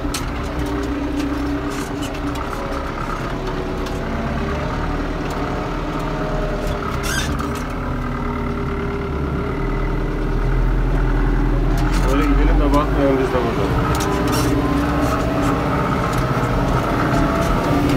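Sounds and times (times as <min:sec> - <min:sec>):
tractor diesel engine rumbling: 0:00.0 - 0:17.9.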